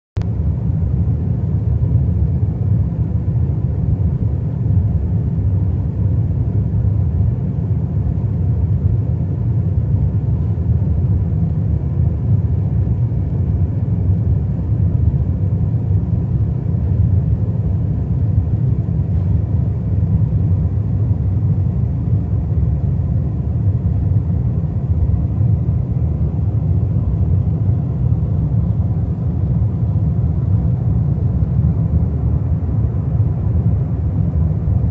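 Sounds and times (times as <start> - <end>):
airliner cabin rumble: 0.2 - 34.9.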